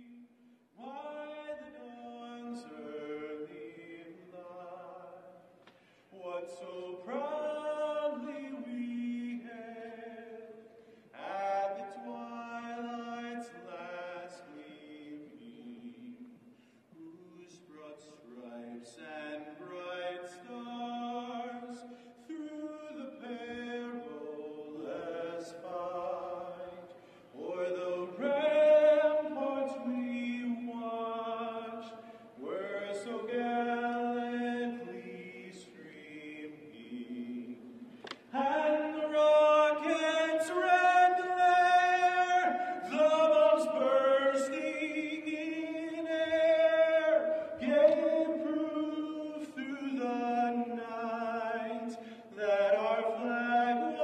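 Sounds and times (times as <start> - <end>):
slow choral chanting: 0.0 - 54.0.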